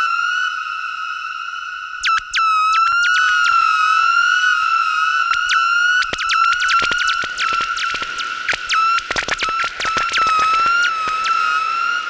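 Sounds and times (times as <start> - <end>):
whistle-like synthesizer tone: 0.0 - 12.0.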